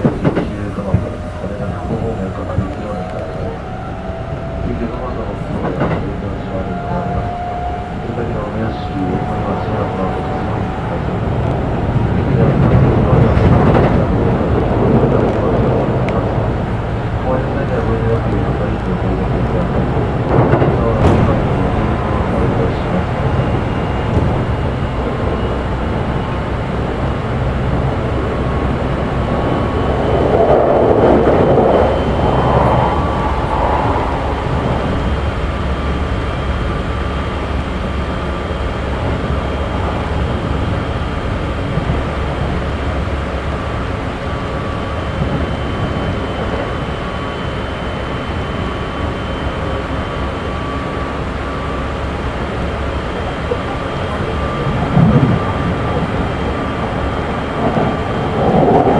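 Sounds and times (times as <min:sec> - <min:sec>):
thin high motor whine: 0:00.0 - 0:58.9
train wheels rumbling on rail: 0:00.0 - 0:58.9.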